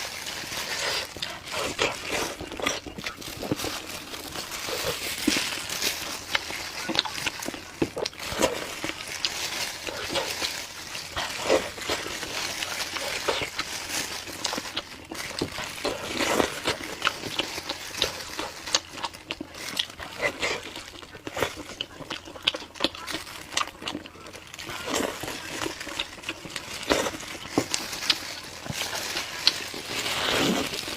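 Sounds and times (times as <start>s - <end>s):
person chewing meat: 0.0s - 30.9s.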